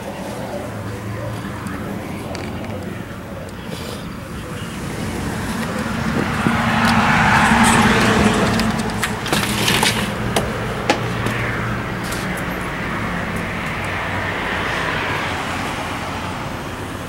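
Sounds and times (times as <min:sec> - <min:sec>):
vehicle passing by: 0:00.0 - 0:17.0.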